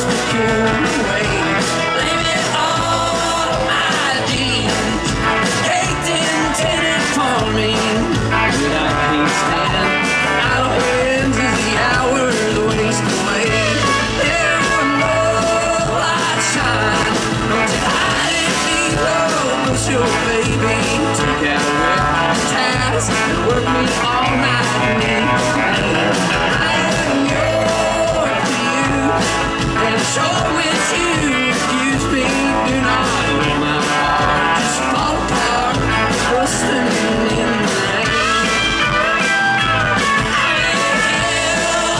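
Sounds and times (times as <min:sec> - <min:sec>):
live country band playing: 0:00.0 - 0:41.9.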